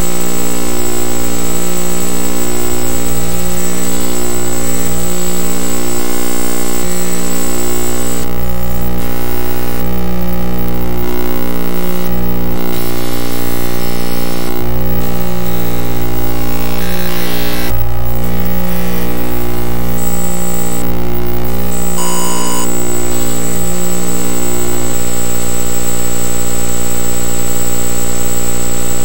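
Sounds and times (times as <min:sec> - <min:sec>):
harsh electronic buzzing drone: 0:00.0 - 0:29.0.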